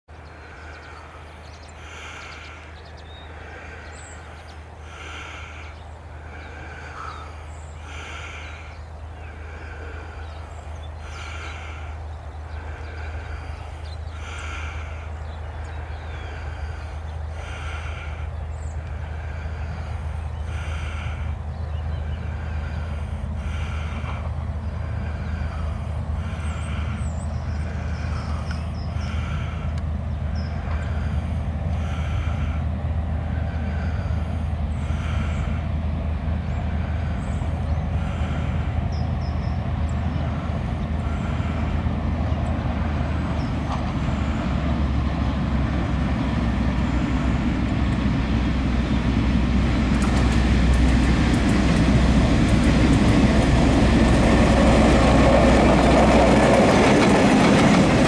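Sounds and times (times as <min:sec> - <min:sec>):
diesel locomotive engine drone: 0:00.1 - 0:58.0.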